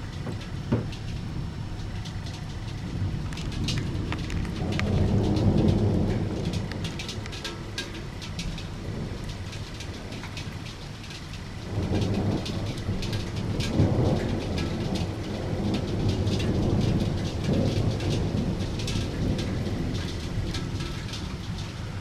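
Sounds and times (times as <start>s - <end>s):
raindrops striking close by: 0.0s - 22.0s
steady rain: 0.0s - 22.0s
thunder rumbling: 0.0s - 22.0s.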